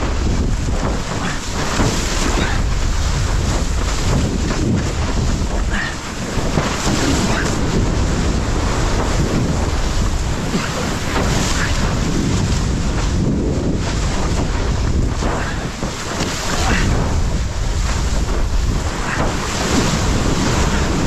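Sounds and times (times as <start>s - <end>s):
water rushing under board: 0.0s - 21.0s
wind buffeting microphone: 0.0s - 21.0s.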